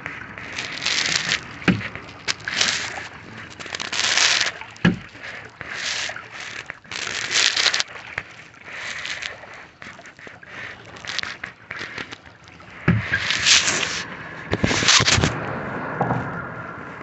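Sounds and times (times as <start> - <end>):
water dripping: 0.0 - 15.6
kayak paddle splashing: 0.0 - 17.0.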